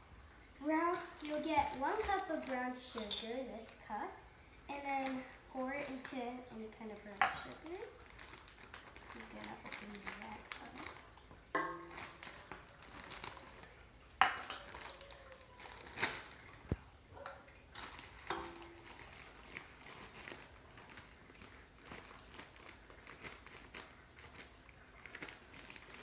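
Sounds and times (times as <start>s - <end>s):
plastic bag crinkling: 0.6s - 4.0s, 4.7s - 26.0s.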